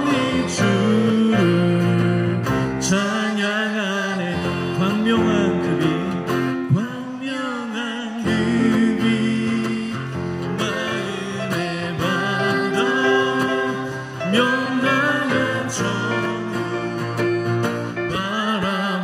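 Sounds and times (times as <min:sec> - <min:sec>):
acoustic guitar strumming: 0:00.0 - 0:19.0
man and woman singing hymn: 0:00.0 - 0:19.0.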